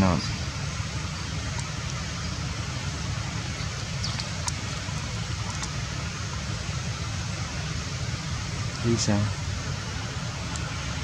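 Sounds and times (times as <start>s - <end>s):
even hiss: 0.0s - 11.0s.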